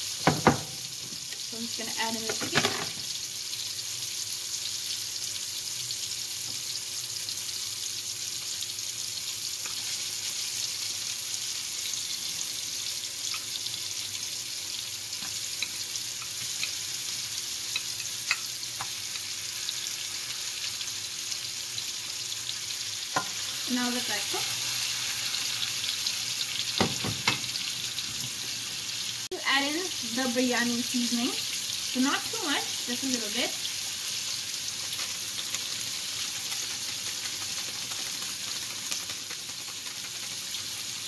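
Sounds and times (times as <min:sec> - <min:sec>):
chicken sizzling in a pan: 0:00.0 - 0:41.0.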